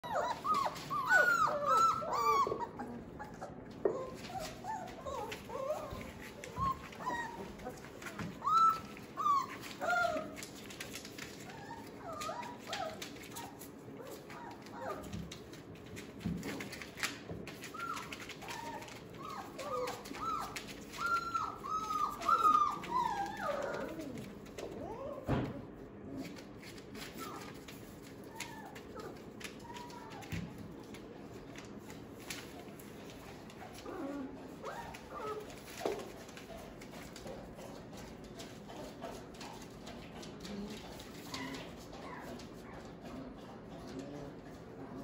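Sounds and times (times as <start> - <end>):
puppies whining and yelping: 0.0 - 15.5, 16.4 - 26.4, 27.0 - 30.6, 32.6 - 44.2.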